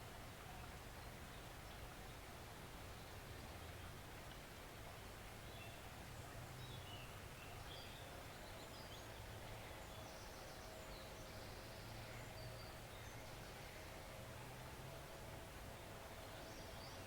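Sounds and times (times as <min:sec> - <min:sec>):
forest stream rushing: 0:00.0 - 0:17.0.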